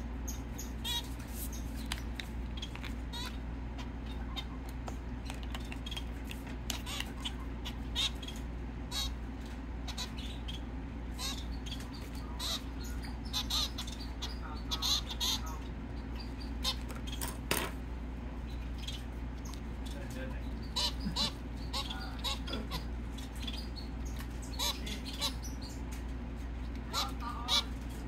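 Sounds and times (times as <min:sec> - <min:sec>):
steady low hum: 0:00.0 - 0:28.0
finch chick chirping: 0:00.1 - 0:17.4, 0:18.4 - 0:28.0.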